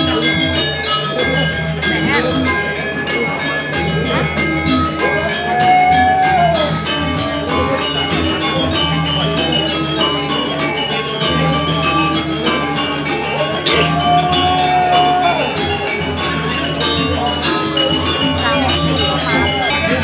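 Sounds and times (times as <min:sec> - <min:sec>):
metallophones and gongs: 0:00.0 - 0:20.0.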